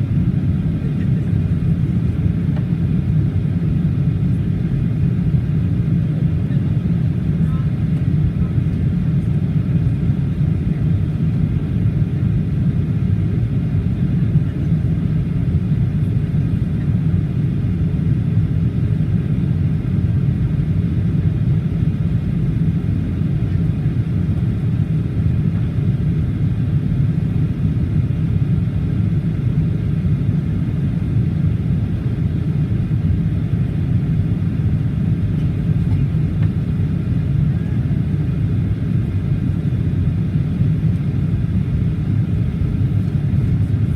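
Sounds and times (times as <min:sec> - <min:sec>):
airplane cabin rumble: 0:00.0 - 0:43.9.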